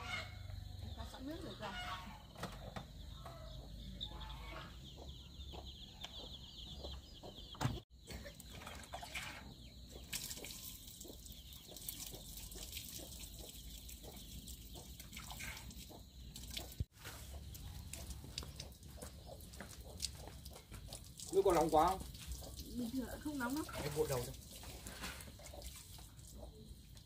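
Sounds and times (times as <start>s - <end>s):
chickens clucking: 0.0s - 26.8s.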